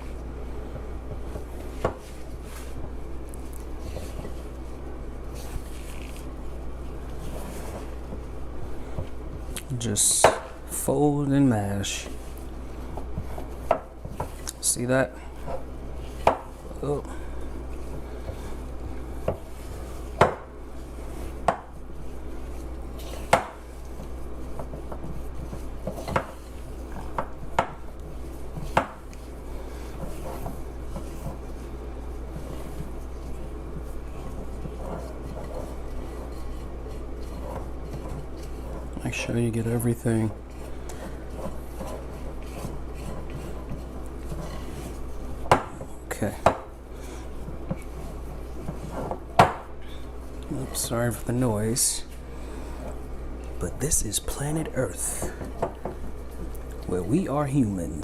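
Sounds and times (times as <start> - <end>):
steady low hum: 0.0 - 58.0
utensil scraping mixing bowl: 0.0 - 58.0.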